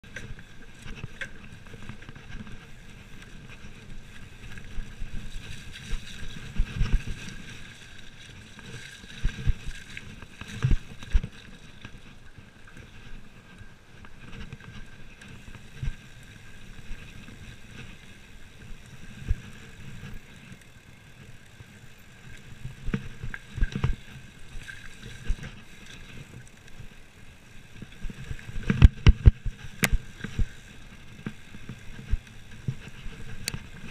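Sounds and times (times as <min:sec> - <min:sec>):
bike rolling and rattling: 0:00.0 - 0:33.9.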